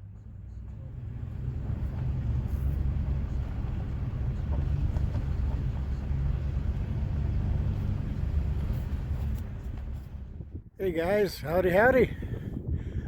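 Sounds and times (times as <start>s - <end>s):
wind buffeting microphone: 1.1s - 13.0s.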